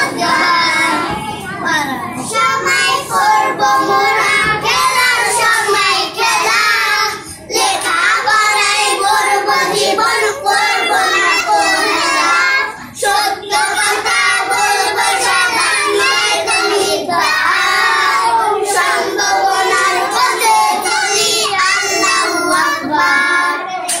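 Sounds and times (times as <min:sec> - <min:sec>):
children singing in unison: 0:00.0 - 0:24.0.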